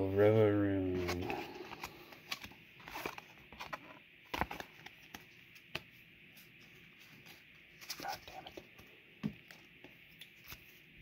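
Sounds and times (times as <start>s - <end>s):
cards scraping: 0.9s - 8.9s, 9.5s - 10.9s.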